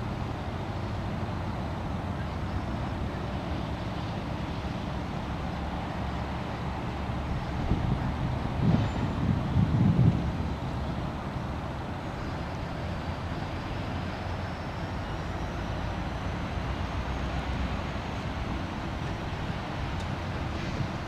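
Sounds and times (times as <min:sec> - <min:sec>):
freight train wheels on rails: 0:00.0 - 0:21.0.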